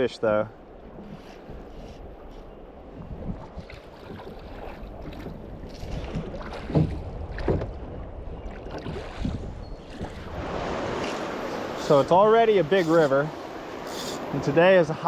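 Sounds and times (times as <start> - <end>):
water splashing around boat: 0.7 - 14.8.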